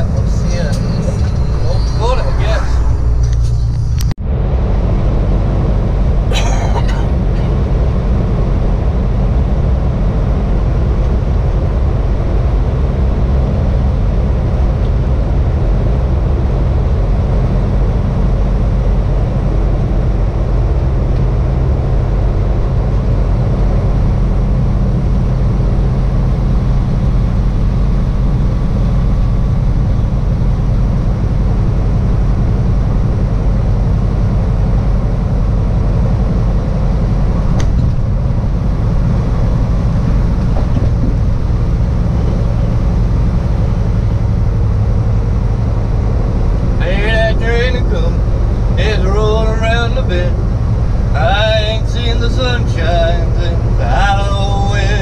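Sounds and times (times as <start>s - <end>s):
road noise: 0.0s - 55.0s
truck diesel engine running: 0.0s - 55.0s.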